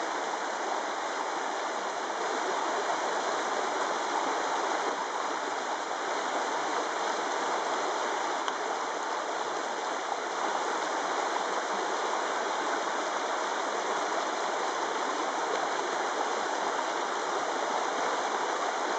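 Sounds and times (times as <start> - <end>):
stream rushing over rocks: 0.0 - 18.9.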